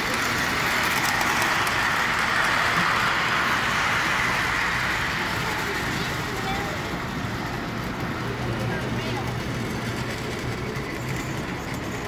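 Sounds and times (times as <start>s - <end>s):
model train whirring past: 0.0s - 12.0s.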